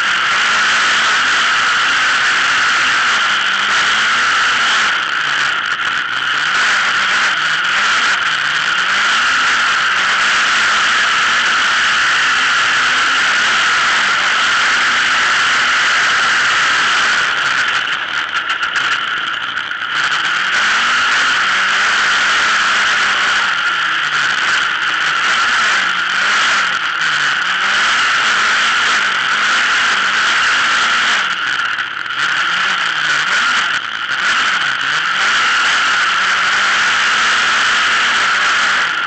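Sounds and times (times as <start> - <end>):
engine crackle: 0.0 - 39.0
racing engine revving: 0.0 - 39.0
steady rushing noise: 0.0 - 39.0.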